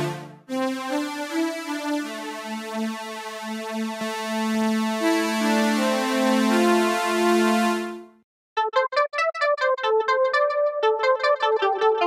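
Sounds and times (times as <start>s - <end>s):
synthesizer strings playing chords: 0.0s - 12.0s.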